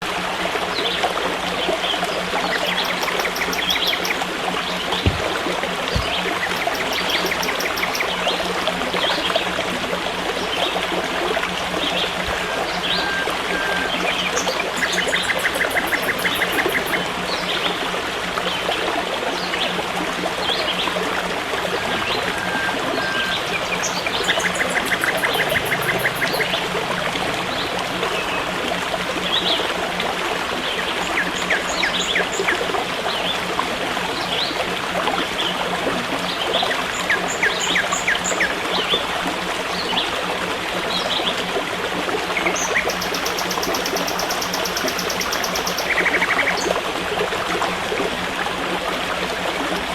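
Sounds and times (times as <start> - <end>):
forest stream trickling: 0.0 - 49.9.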